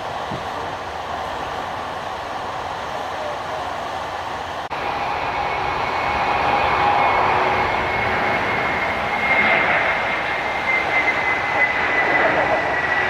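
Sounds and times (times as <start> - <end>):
jet engines roaring with whine: 0.0 - 13.0.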